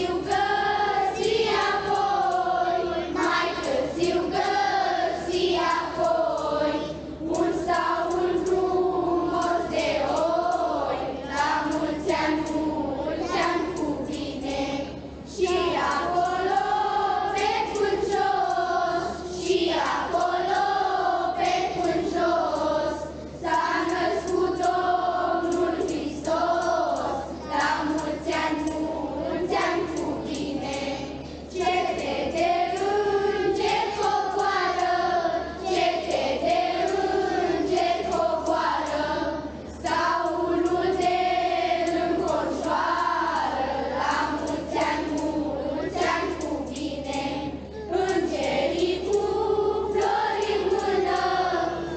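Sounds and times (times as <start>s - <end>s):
children's choir singing a carol: 0.0s - 51.9s.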